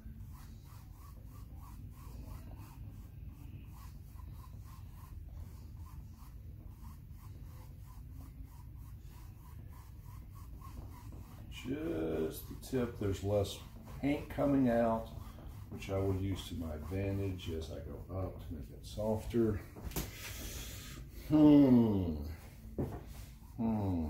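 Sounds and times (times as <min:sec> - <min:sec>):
paintbrush scratching on paper: 0:00.0 - 0:24.0
steady low hum: 0:00.0 - 0:24.0.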